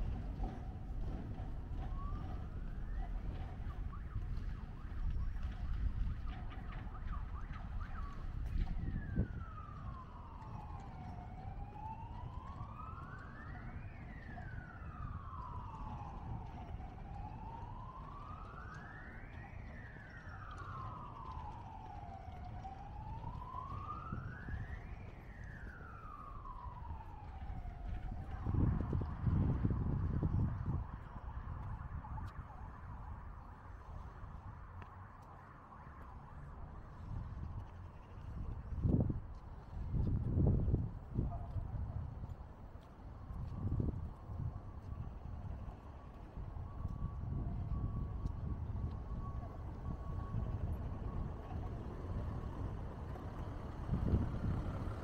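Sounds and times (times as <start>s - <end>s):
emergency siren wailing: 0.0s - 55.0s.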